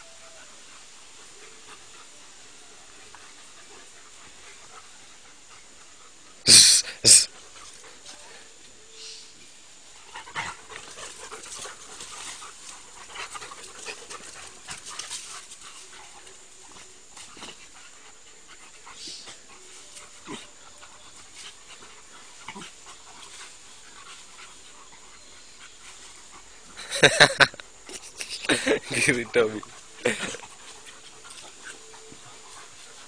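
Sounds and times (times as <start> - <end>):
dogs panting: 0.3 - 6.4, 7.1 - 8.7, 9.8 - 33.0.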